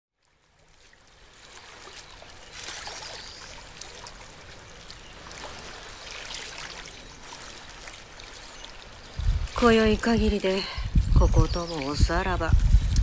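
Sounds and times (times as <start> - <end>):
river water flowing and lapping: 0.1 - 13.0.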